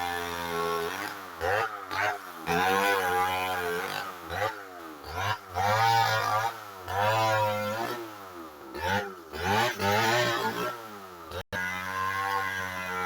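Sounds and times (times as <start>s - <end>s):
chainsaw cutting: 0.0s - 13.0s.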